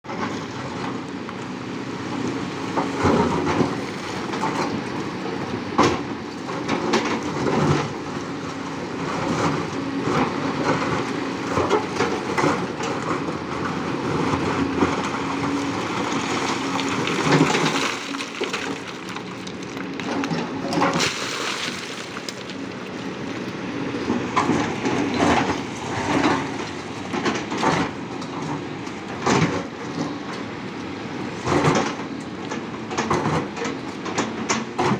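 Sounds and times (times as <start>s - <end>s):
excavator engine running: 0.1s - 34.9s.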